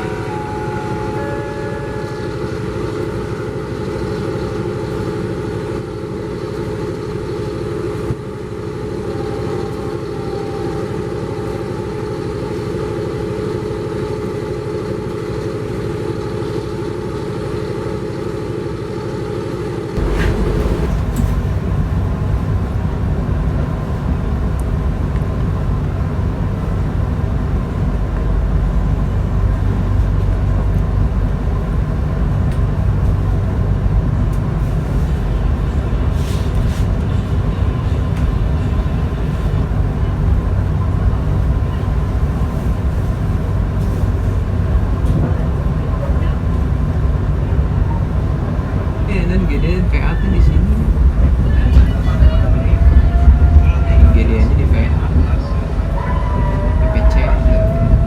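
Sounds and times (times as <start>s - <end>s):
train carriage hum: 0.0s - 58.0s
train rumbling on rails: 0.0s - 58.0s.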